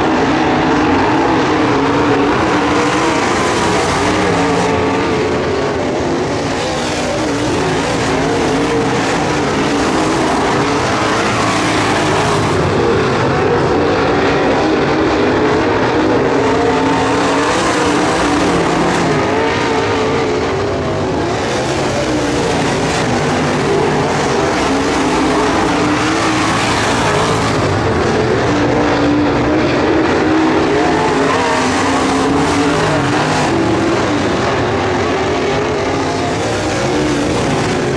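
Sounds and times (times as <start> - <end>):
race car engines roaring: 0.0 - 37.9.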